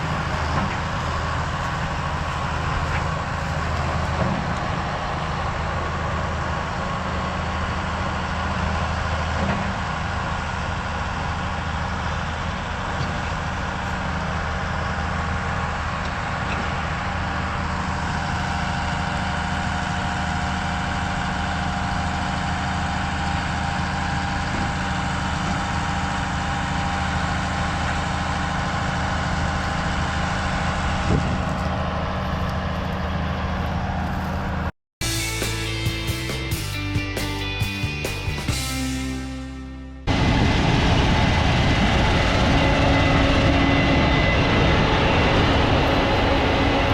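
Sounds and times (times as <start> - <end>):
farm machine engine running: 0.0 - 46.9.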